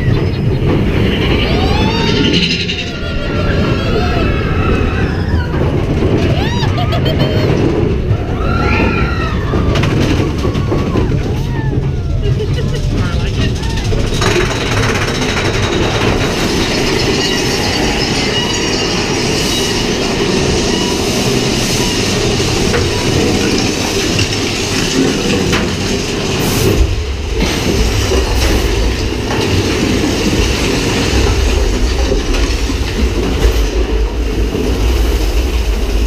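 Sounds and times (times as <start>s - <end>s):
train rolling rumble: 0.0s - 36.0s.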